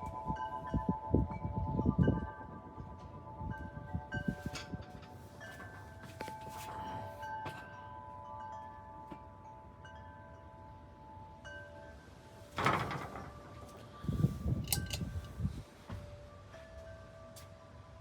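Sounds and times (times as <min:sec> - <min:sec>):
wind chimes ringing: 0:00.0 - 0:12.6, 0:13.3 - 0:18.0.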